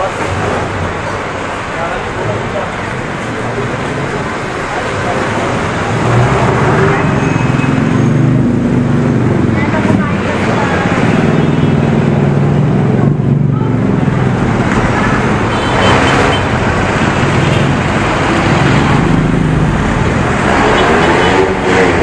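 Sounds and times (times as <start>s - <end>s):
vehicle engines running: 0.0s - 22.0s
vehicles passing close by: 0.0s - 22.0s.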